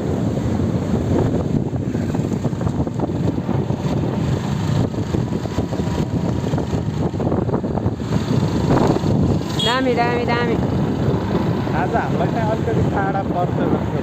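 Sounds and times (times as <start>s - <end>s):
motorcycle engine rumble: 0.0s - 14.0s
road noise: 0.0s - 14.0s.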